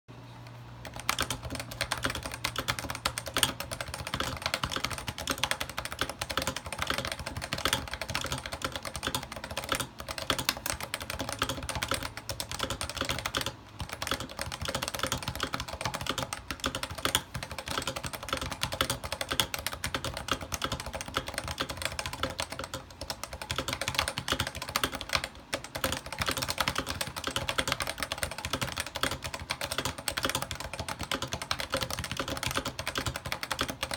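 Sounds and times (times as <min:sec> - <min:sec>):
keyboard typing: 0:00.4 - 0:33.9.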